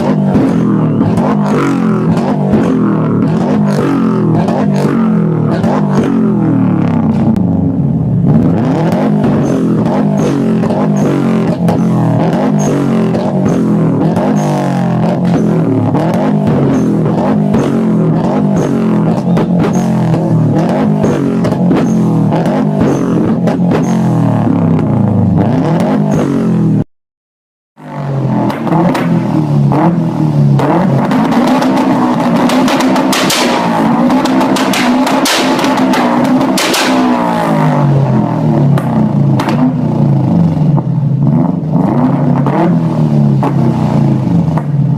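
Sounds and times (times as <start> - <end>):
exhaust pops and crackles: 0.0 - 7.5, 8.2 - 26.3, 28.3 - 44.9
car engine revving: 0.0 - 26.9, 27.8 - 44.9.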